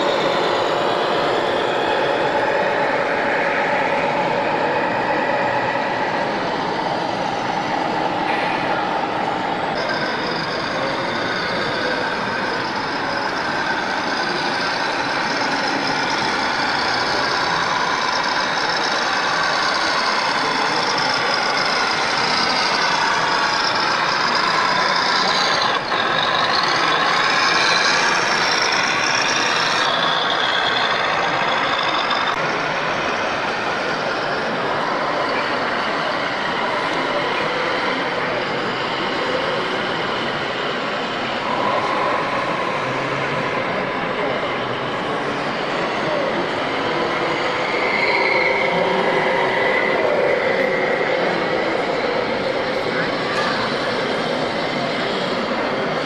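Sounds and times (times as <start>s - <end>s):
dense background din: 0.0s - 56.0s
model truck motors whining: 0.0s - 56.0s.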